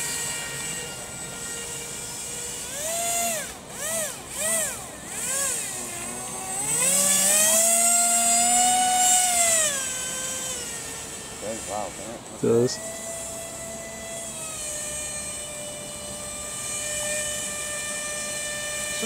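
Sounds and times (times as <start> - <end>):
model airboat motor whining: 0.0 - 19.0.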